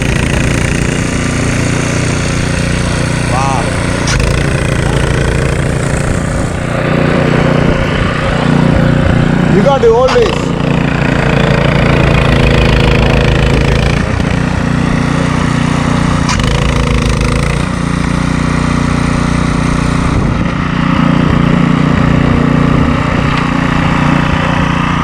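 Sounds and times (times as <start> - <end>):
snowblower engine running: 0.0 - 25.0.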